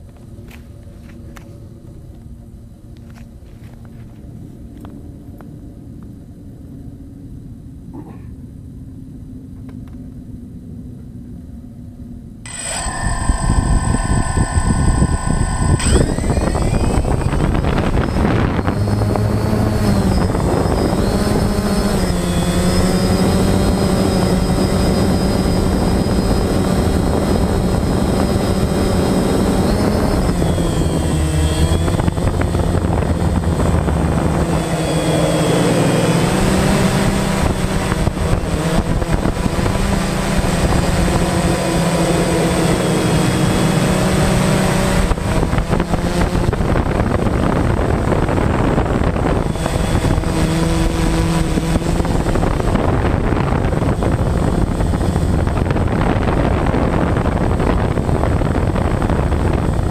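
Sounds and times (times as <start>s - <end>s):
drone motors buzzing whine: 0.0s - 7.9s, 8.6s - 59.9s.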